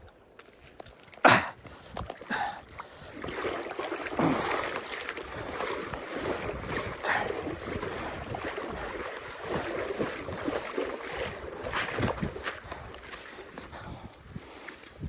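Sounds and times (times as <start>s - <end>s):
wind buffeting microphone: 1.6s - 15.0s.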